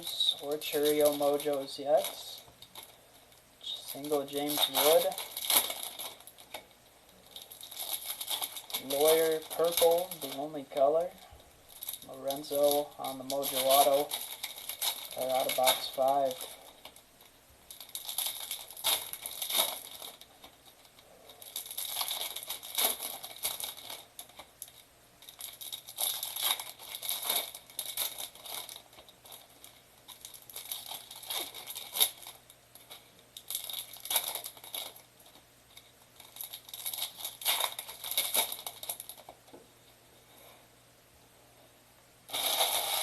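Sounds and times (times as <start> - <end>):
plastic wrapping tearing and crinkling: 0.0 - 3.0, 3.6 - 39.5, 42.3 - 43.0.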